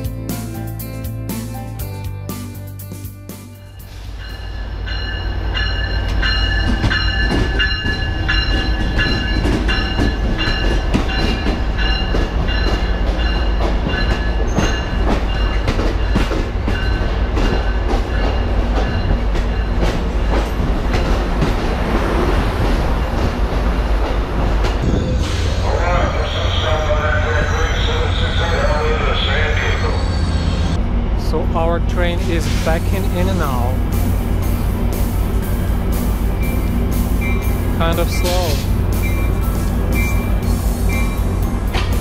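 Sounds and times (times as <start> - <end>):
train cars rumbling: 0.0 - 42.0.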